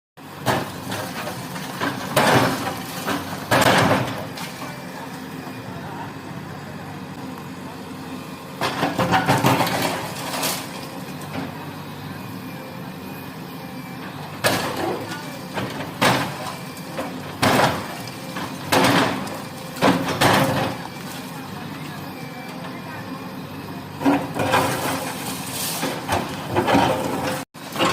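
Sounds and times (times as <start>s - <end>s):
excavator engine running: 0.2s - 27.9s.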